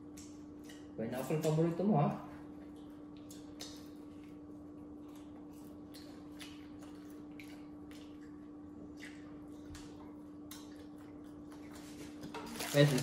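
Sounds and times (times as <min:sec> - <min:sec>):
wet chewing and lip-smacking: 0:00.0 - 0:01.7, 0:02.3 - 0:12.5.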